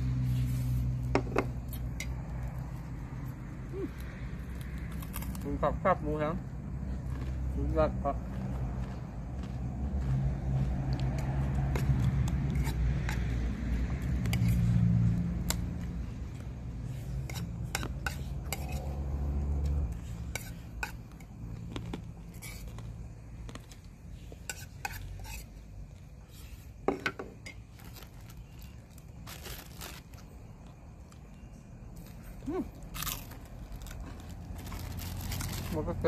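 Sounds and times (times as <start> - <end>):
low engine-like hum: 0.0 - 24.4, 25.1 - 36.0.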